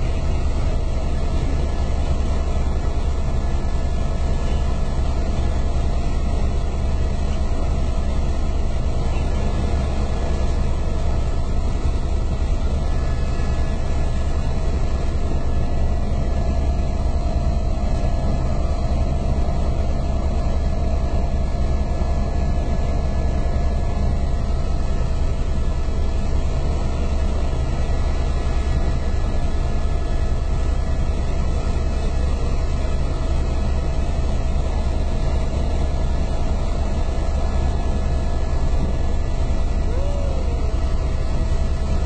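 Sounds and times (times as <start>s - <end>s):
faint constant whine: 0.0s - 42.0s
helicopter engine and rotor drone: 0.0s - 42.0s.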